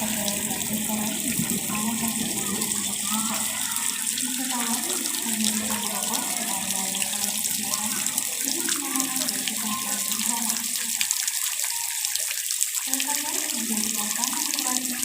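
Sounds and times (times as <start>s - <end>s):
flowing water splashing: 0.0s - 15.0s.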